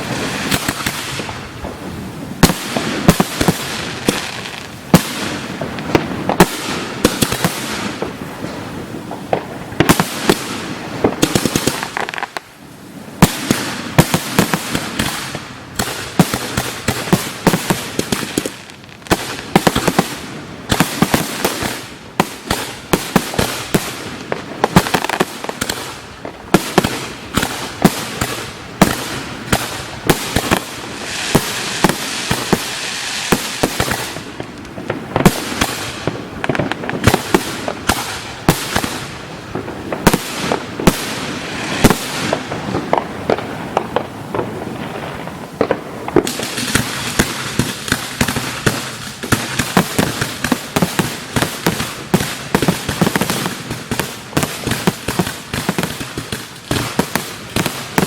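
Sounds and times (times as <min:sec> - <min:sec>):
fireworks bursting with sharp bangs: 0:00.0 - 0:58.0
fireworks hiss and crackle: 0:00.0 - 0:58.0.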